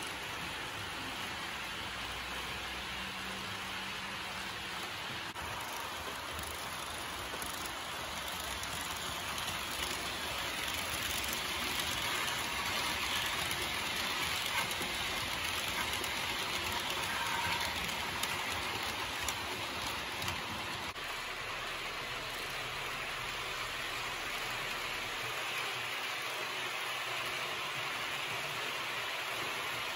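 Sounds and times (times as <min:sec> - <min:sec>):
model trains rolling on rails: 0:00.0 - 0:29.9.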